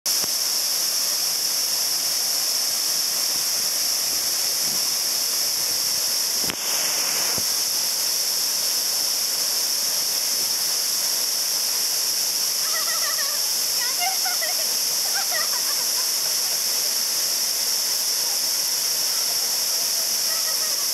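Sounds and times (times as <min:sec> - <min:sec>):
waterfall rushing: 0:00.1 - 0:20.9.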